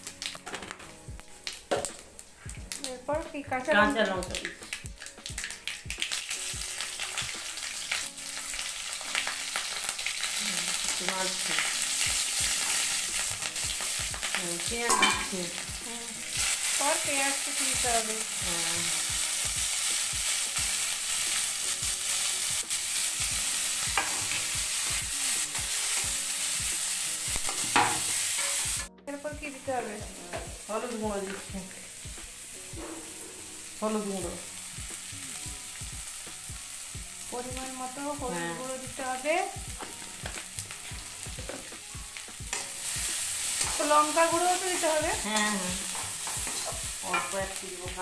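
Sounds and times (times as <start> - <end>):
food sizzling in hot oil: 0.0 - 48.0.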